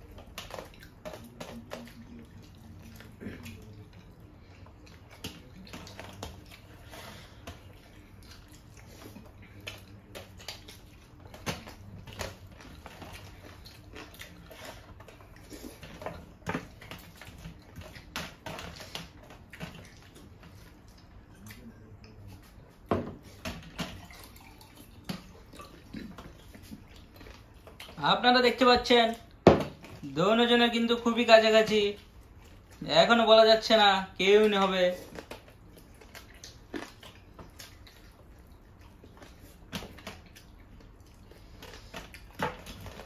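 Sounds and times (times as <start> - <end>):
chewing and lip smacking: 0.0 - 22.8, 24.0 - 28.1, 32.0 - 32.8, 35.0 - 43.0
wet squelching of food by hand: 0.0 - 43.0.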